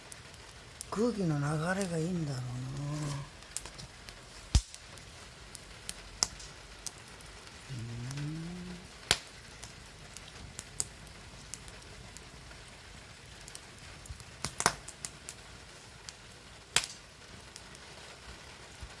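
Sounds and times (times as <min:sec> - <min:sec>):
faint steady hiss: 0:00.0 - 0:19.0
wood fire crackling and popping: 0:00.0 - 0:19.0.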